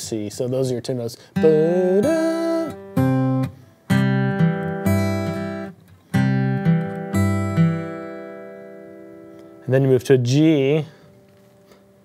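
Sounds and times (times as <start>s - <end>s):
fingerpicked acoustic guitar: 0.0s - 12.0s.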